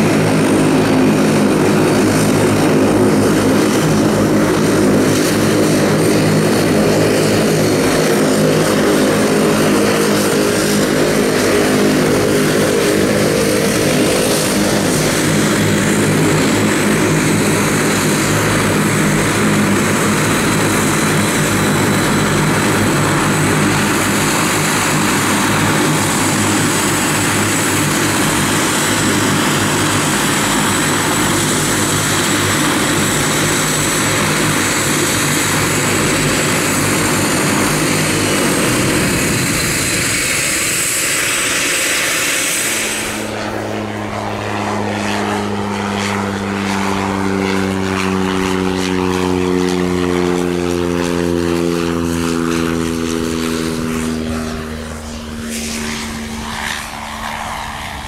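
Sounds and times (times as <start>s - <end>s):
high turbine whine: 0.0s - 58.0s
propeller drone: 0.0s - 58.0s.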